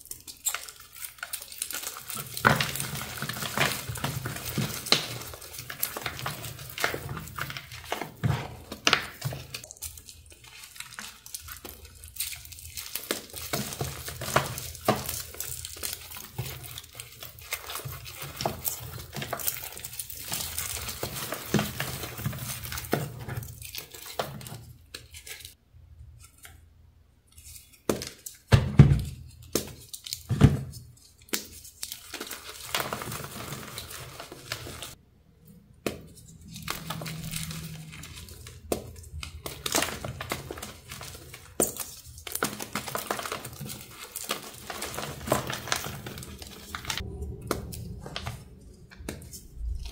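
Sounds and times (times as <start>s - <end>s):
chalk crunching and crumbling: 0.0s - 25.6s, 29.2s - 35.0s, 35.8s - 49.9s.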